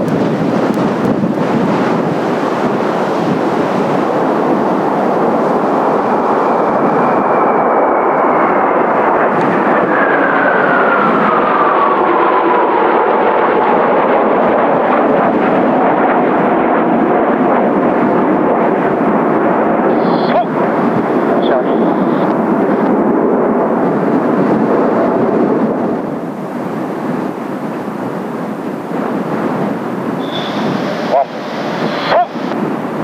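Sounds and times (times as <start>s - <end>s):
jets flying past: 0.0s - 33.0s
wind buffeting microphone: 0.0s - 33.0s.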